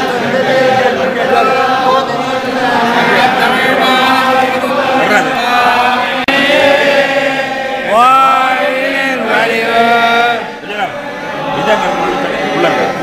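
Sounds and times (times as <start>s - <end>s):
voices chanting together: 0.0s - 13.0s.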